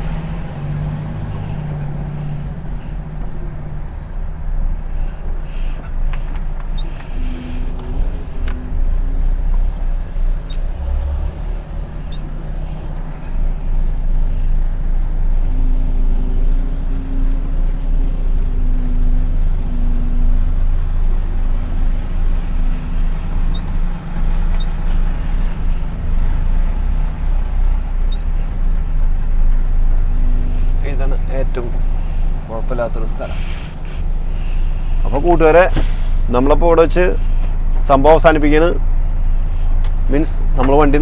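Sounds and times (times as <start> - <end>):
truck engine rumbling: 0.0 - 41.0.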